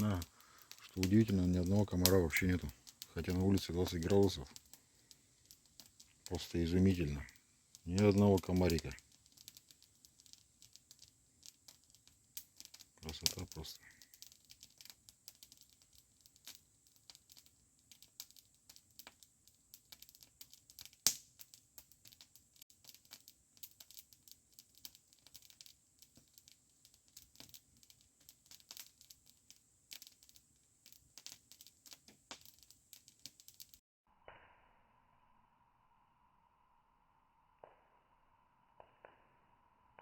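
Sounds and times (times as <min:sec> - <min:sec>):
campfire crackling and popping: 0:00.0 - 0:34.4, 0:38.8 - 0:39.2.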